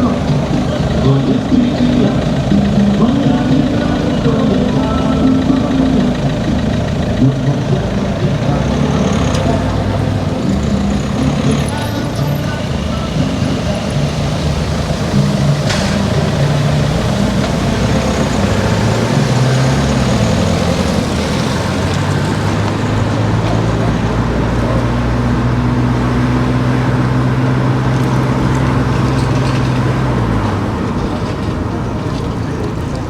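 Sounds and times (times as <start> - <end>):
car engine: 0.0 - 33.0
road noise: 0.0 - 33.0.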